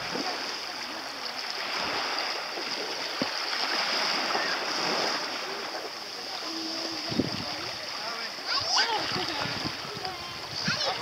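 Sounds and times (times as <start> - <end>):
faint distant voices: 0.0 - 11.0
small waves lapping: 0.0 - 11.0.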